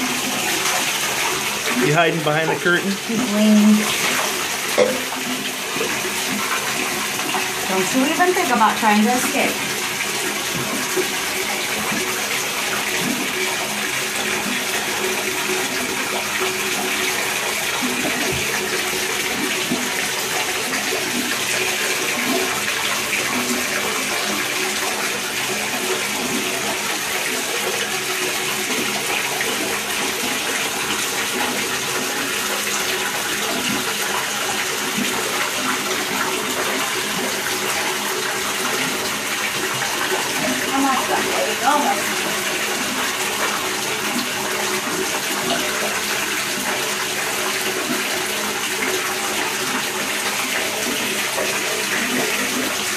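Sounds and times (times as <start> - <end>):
water running into bathtub: 0.0 - 52.9.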